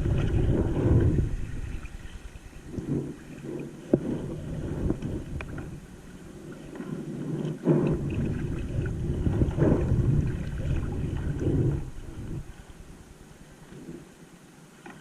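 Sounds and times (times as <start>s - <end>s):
wind rumbling on microphone: 0.0s - 14.2s
water sloshing around kayak: 0.0s - 15.0s.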